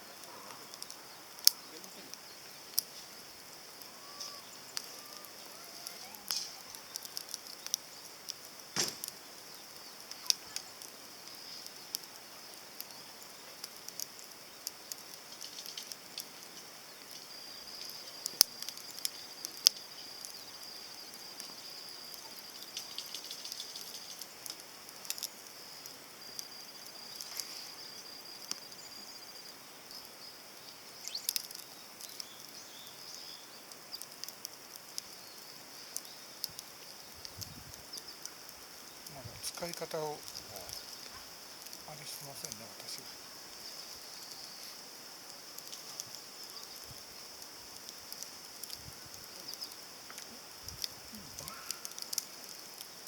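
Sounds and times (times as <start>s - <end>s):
fire pops: 0.0s - 53.0s
wood fire crackling: 0.0s - 53.0s.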